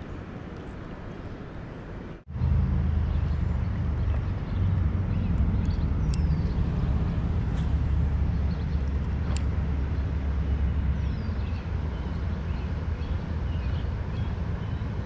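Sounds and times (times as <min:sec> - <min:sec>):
low outdoor rumble: 0:00.0 - 0:15.0
small birds chirping: 0:02.1 - 0:15.0.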